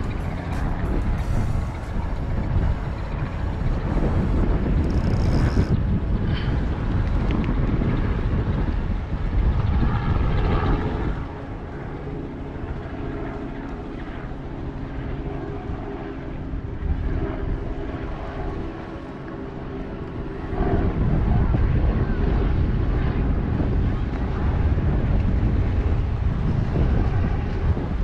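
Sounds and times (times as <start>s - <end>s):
engine drone: 0.0s - 28.0s
wind buffeting microphone: 0.0s - 28.0s.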